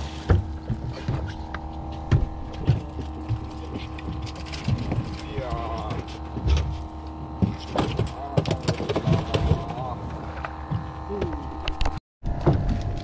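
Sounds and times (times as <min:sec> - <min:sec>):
boat motor hum: 0:00.0 - 0:13.0.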